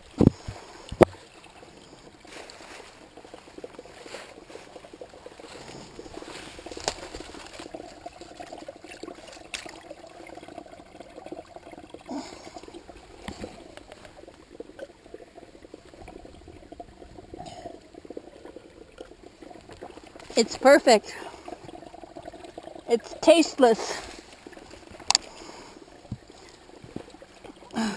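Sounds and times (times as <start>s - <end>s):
brook babbling over rocks: 0.0s - 27.9s.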